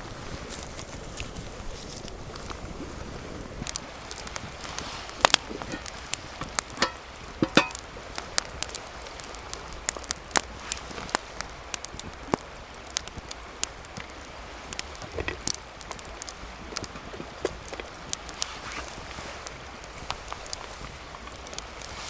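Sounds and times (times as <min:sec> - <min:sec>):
campfire crackling and popping: 0:00.0 - 0:22.0
fire hiss: 0:00.0 - 0:22.0.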